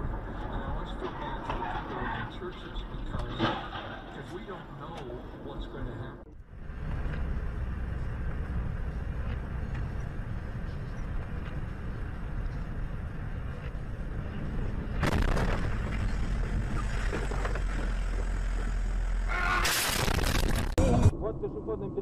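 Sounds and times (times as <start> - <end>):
vehicle road noise: 0.0 - 22.0.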